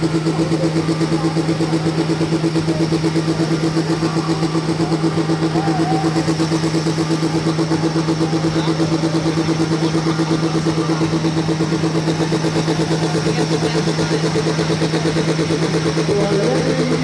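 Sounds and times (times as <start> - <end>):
diesel tractor engine idling: 0.0 - 17.0.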